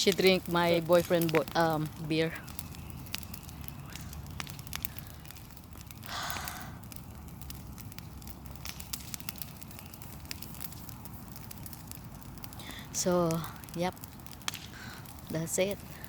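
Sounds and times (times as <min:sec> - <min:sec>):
bonfire crackling: 0:00.0 - 0:16.0
sharp pops from fire: 0:00.0 - 0:16.0.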